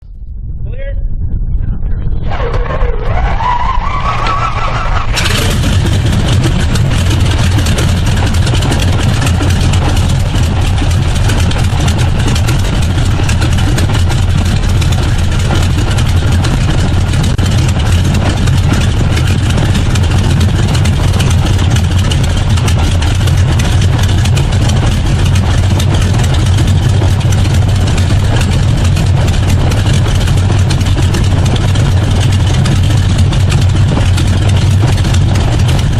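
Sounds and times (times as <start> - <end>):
starter whine: 2.3 - 35.9
radial engine running: 4.2 - 35.9.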